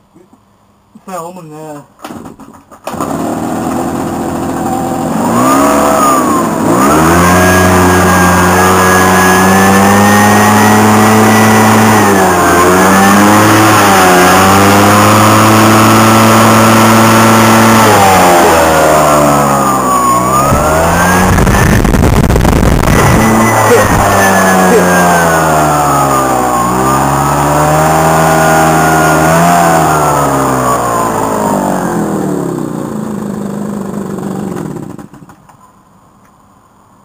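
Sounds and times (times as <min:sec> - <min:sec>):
leaf blower engine revving: 0:02.9 - 0:35.4.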